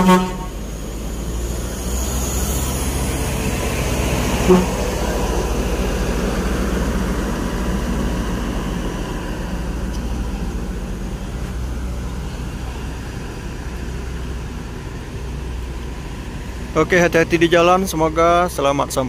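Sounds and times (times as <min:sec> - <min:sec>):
bus diesel engine pulling away: 0:00.0 - 0:19.0.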